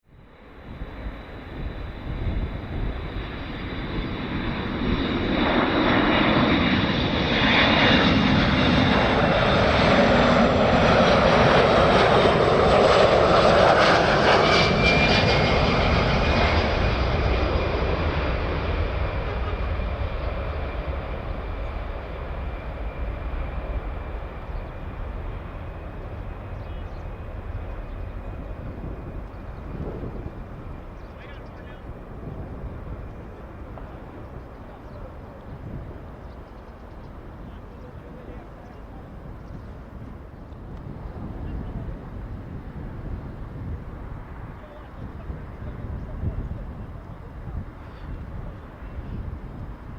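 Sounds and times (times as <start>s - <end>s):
jet engine rumble: 0.0s - 49.9s
high jet whine: 0.1s - 49.9s.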